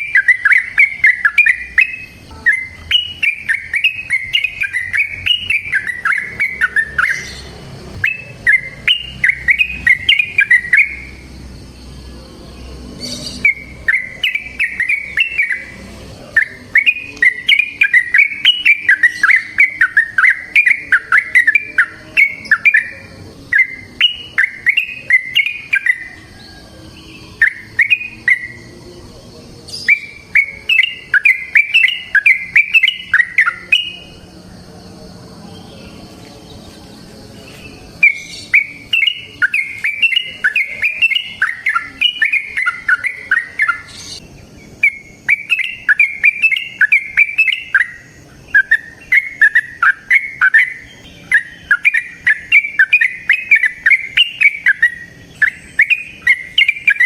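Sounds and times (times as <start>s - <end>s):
bird singing sweeping notes: 0.0s - 57.0s.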